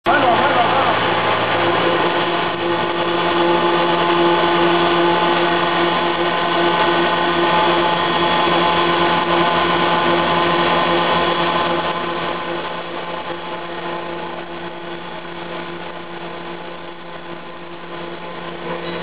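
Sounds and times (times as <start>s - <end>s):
extruder machine droning: 0.0s - 19.0s.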